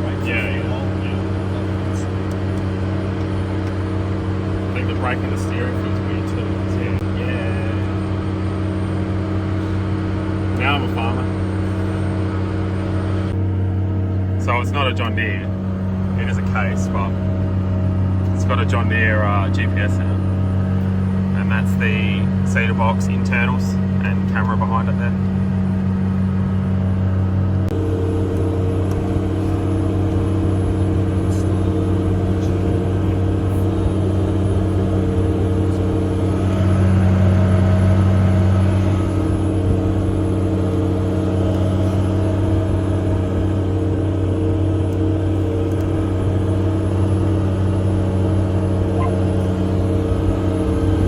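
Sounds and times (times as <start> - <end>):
tractor engine droning: 0.0 - 51.0.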